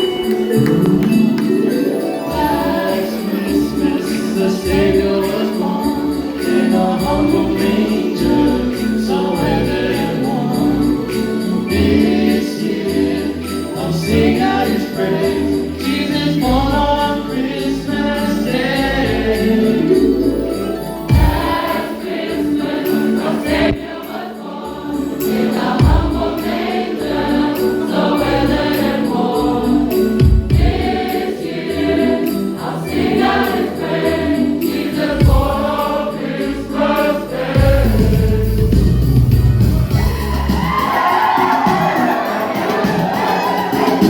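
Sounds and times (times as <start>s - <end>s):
choir singing with accompaniment: 0.0s - 44.0s.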